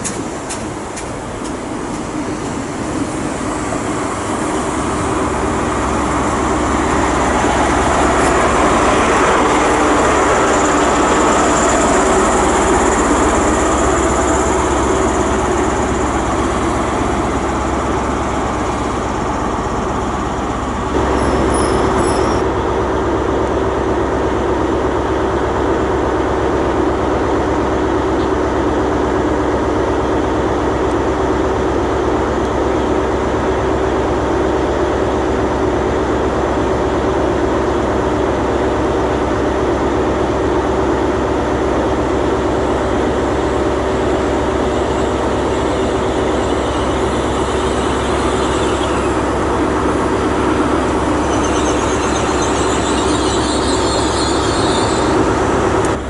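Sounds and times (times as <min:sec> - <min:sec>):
diesel train running: 0:00.0 - 0:56.0
train approaching with hum: 0:00.0 - 0:56.0.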